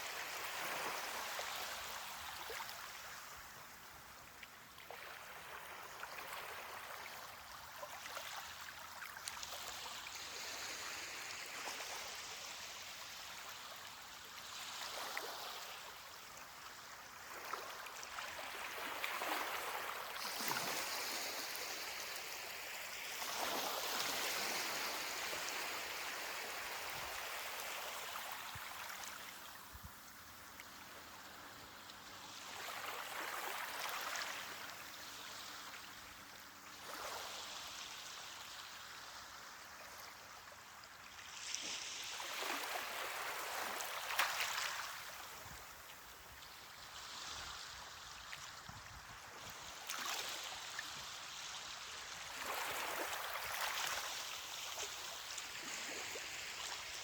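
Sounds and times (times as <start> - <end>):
ocean waves on a beach: 0.0 - 57.0.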